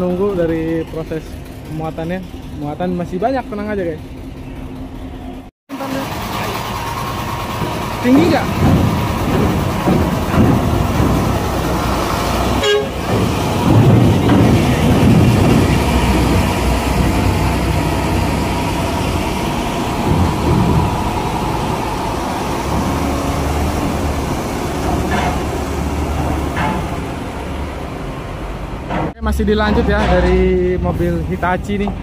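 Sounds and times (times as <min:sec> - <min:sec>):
heavy truck engine rumbling: 0:00.0 - 0:32.0.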